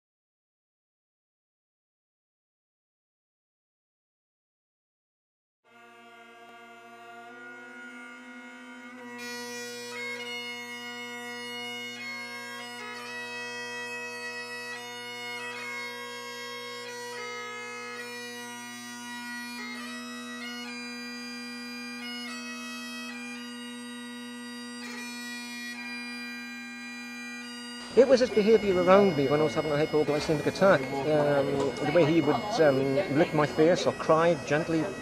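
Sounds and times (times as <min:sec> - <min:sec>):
bagpipes playing slow melody: 0:05.7 - 0:35.0.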